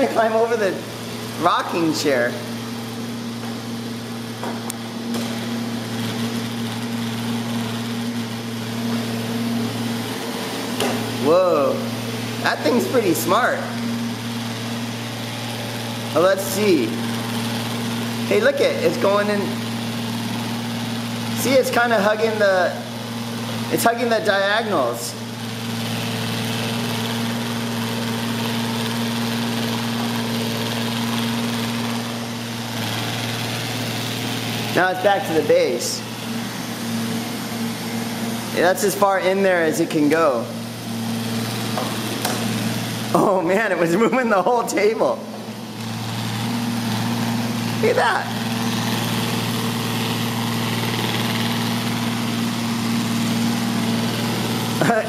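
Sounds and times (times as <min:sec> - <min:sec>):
robot vacuum motor hum: 0:00.0 - 0:55.0.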